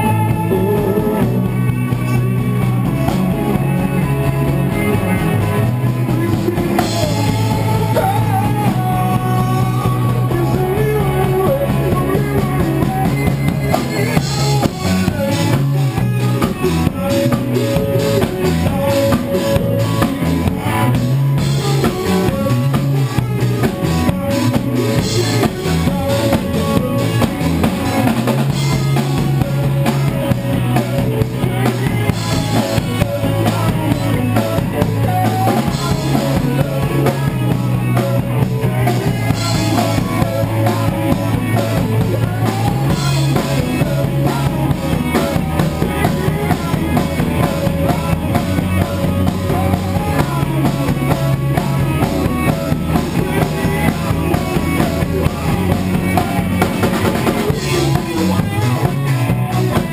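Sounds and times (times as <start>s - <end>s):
drum kit steady beat: 0.0s - 59.9s
low held bass notes: 0.0s - 59.9s.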